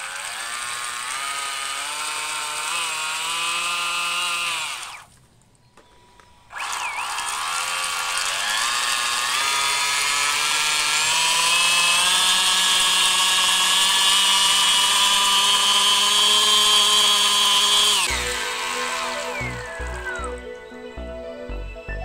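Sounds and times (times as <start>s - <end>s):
electric motor whining: 0.0s - 5.1s, 6.5s - 21.2s.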